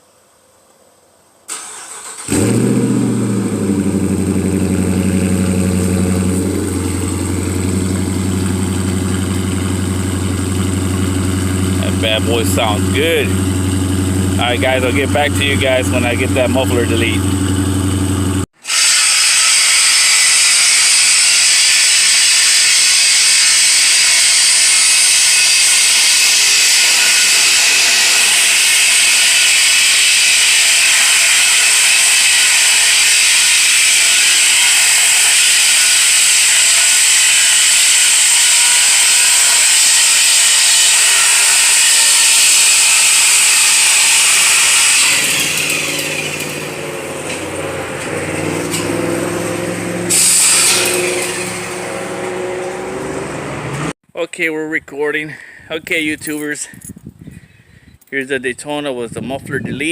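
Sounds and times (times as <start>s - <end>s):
power tool high hissing: 1.5s - 53.2s.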